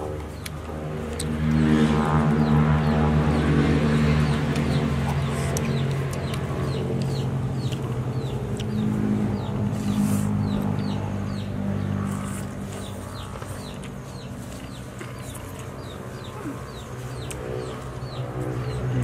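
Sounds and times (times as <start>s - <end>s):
chicks peeping: 0.0s - 19.0s
low steady hum: 0.0s - 19.0s.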